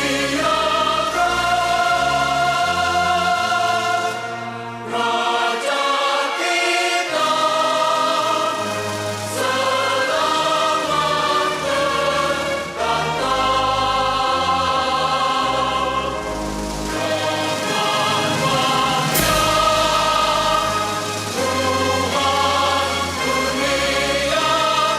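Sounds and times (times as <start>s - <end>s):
choir singing: 0.0s - 24.9s
instrumental accompaniment: 0.0s - 24.9s.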